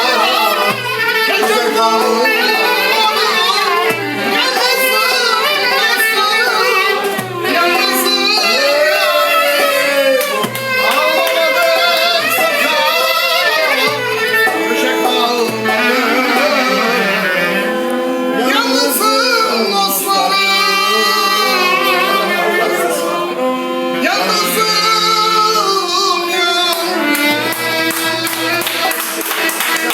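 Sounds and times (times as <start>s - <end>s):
person singing ornamented melody: 0.0s - 13.9s, 14.5s - 27.1s
instrumental accompaniment: 0.0s - 29.9s.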